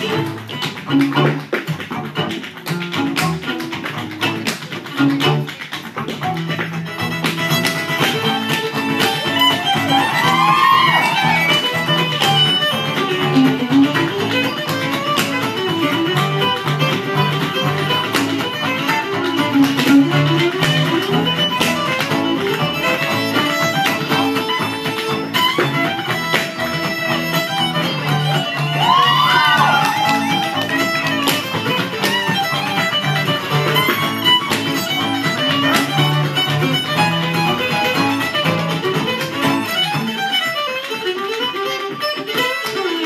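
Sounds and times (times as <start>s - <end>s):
acoustic guitar: 0.0s - 43.0s
cello: 0.0s - 43.0s
fiddle melody: 0.0s - 43.0s
tap dance footwork: 0.0s - 43.0s.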